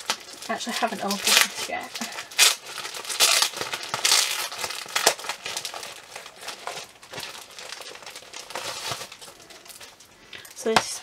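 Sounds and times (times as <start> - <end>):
plastic wrapping tearing and crinkling: 0.0 - 11.0.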